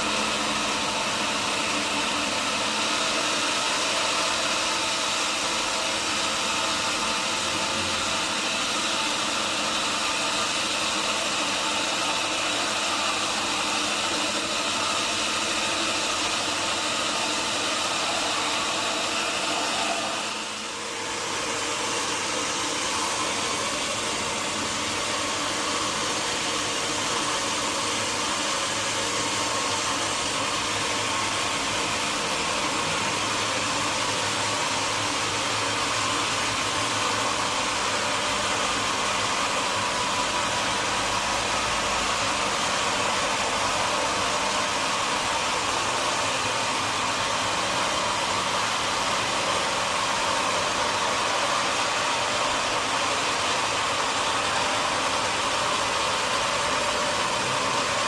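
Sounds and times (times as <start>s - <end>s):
sawmill machinery whirring: 0.0s - 58.0s.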